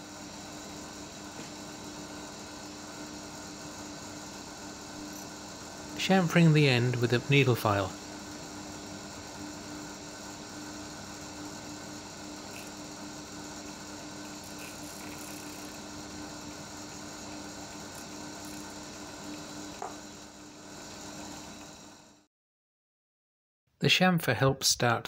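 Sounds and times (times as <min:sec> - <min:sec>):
lathe humming: 0:00.0 - 0:22.2.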